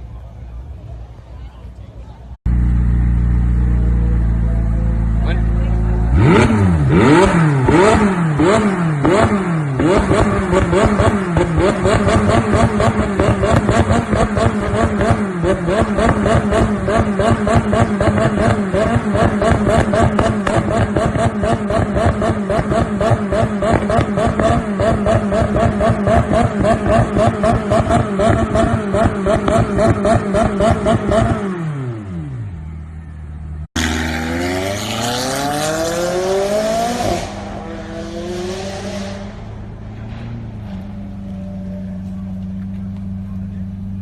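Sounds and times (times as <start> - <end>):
car engine revving: 2.5 - 44.0.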